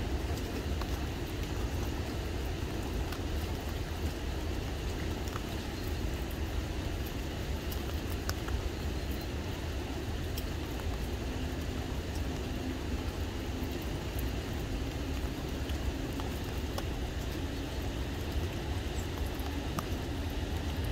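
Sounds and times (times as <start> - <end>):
light rain drops ticking: 0.0 - 20.9.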